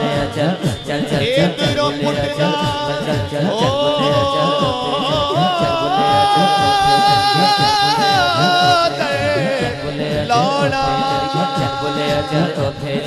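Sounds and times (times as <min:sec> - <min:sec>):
man singing through microphone: 0:00.0 - 0:13.0.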